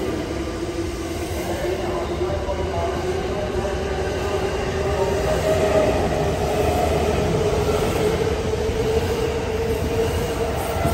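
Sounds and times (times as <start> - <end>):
wheels rumbling on rail: 0.0 - 10.9.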